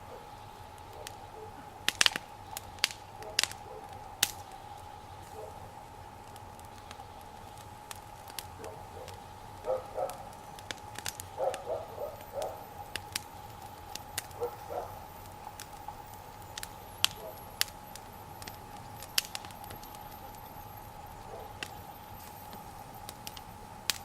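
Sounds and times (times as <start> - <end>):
bird calling: 0.0 - 5.8, 8.3 - 24.0
wood fire crackling: 0.0 - 24.0.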